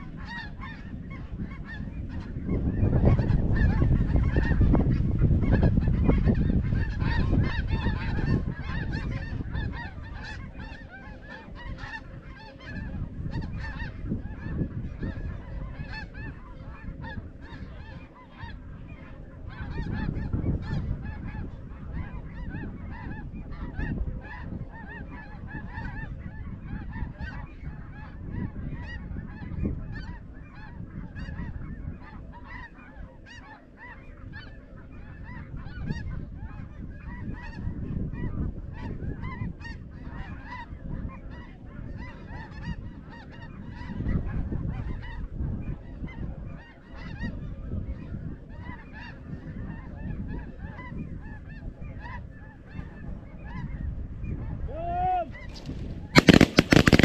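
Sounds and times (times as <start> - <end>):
snow geese honking: 0.0 - 54.5, 55.3 - 57.0.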